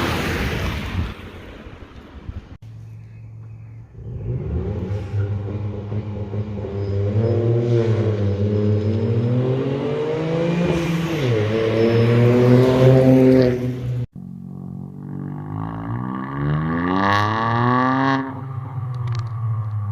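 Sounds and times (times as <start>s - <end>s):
car exhaust under throttle: 2.6s - 19.9s.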